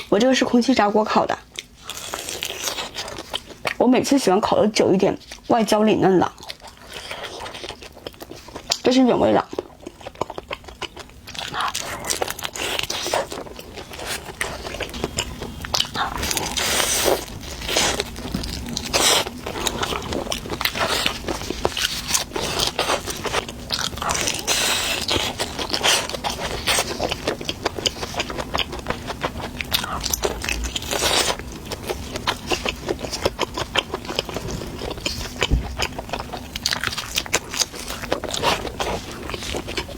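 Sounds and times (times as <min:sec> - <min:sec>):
crunchy chewing: 0:01.5 - 0:03.8, 0:06.2 - 0:39.9.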